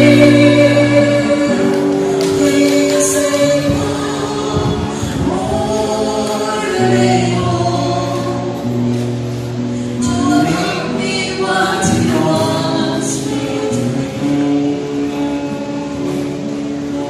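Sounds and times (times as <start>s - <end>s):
man and woman singing duet: 0.0s - 9.0s, 9.8s - 15.0s
acoustic guitar: 0.0s - 17.0s.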